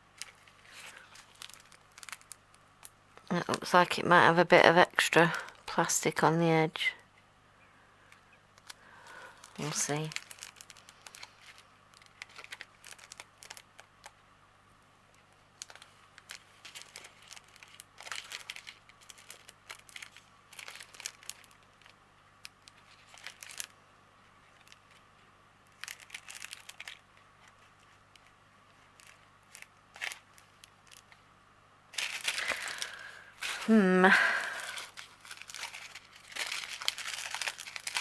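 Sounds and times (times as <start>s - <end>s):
plastic bags crinkling: 0.2s - 5.8s, 8.6s - 14.2s, 15.1s - 31.3s, 31.9s - 38.0s.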